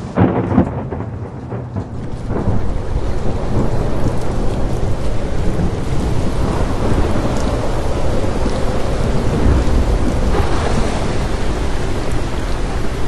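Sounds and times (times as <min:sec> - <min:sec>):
deep rumble: 0:00.0 - 0:13.0
steady rain: 0:00.0 - 0:13.0.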